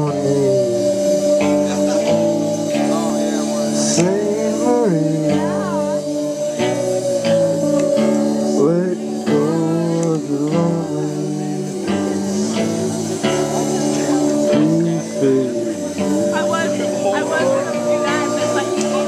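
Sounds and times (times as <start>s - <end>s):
drums: 0.0s - 19.0s
electric guitar: 0.0s - 19.0s
plucked strings: 0.0s - 19.0s.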